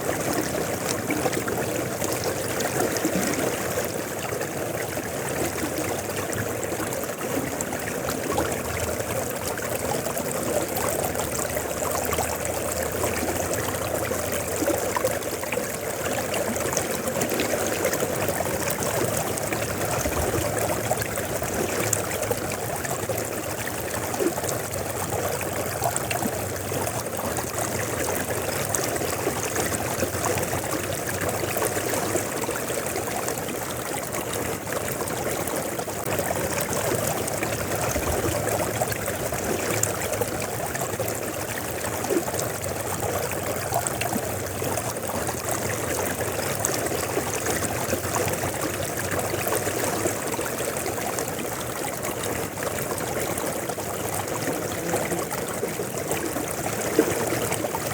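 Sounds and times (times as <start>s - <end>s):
river water rushing: 0.0s - 57.9s
water bubbling and trickling: 0.0s - 57.9s.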